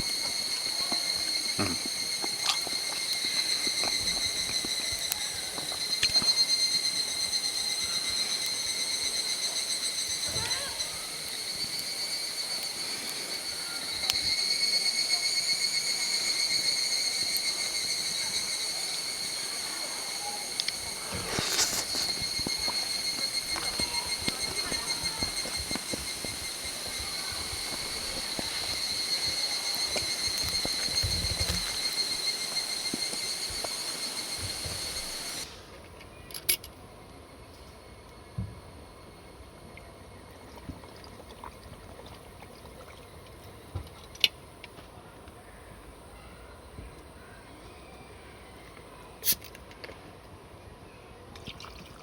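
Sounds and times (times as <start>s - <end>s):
insects chirring: 0.0s - 49.8s.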